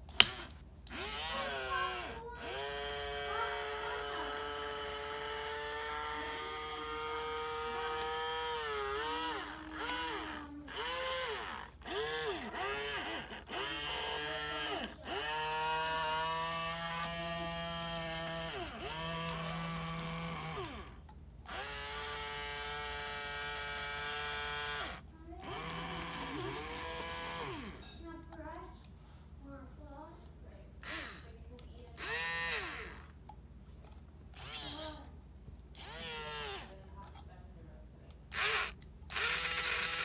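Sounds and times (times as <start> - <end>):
lower-pitched motor running: 0.0 - 27.9, 30.8 - 33.2, 34.3 - 35.1, 35.8 - 36.8, 38.3 - 40.0
small electric motors whining: 0.0 - 28.0, 30.8 - 33.2, 34.3 - 35.1, 35.8 - 36.9, 38.3 - 40.0.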